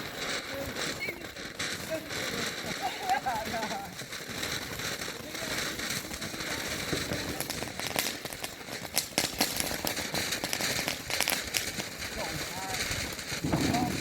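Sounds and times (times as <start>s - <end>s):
fireworks crackling pops: 0.0s - 14.0s
steady hiss: 0.0s - 14.0s.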